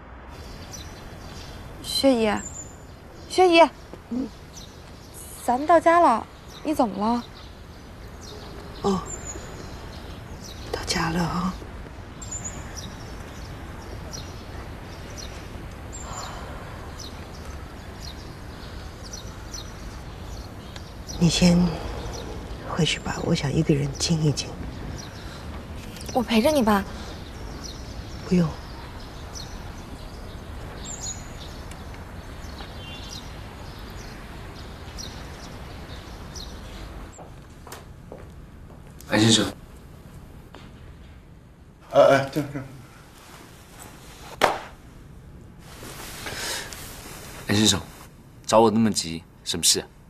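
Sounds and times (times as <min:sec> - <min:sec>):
steady background hiss: 0:00.0 - 0:50.0
small birds chirping: 0:00.3 - 0:37.5, 0:38.2 - 0:44.3, 0:45.7 - 0:49.9.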